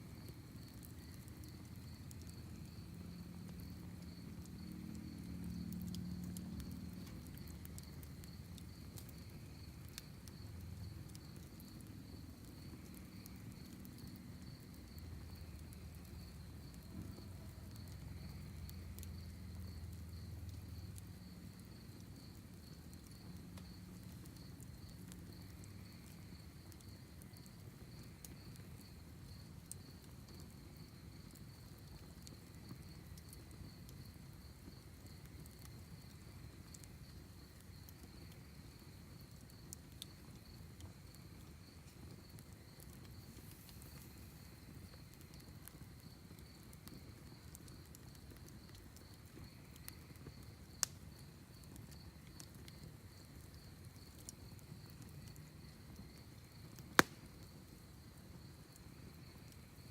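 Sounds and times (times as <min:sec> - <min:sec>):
crickets chirping: 0:00.0 - 0:59.9
wood fire crackling: 0:00.0 - 0:59.9.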